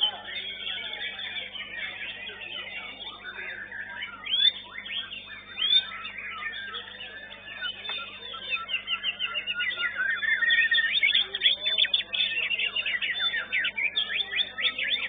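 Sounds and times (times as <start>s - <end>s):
birds whistling and chirping: 0.0s - 15.0s.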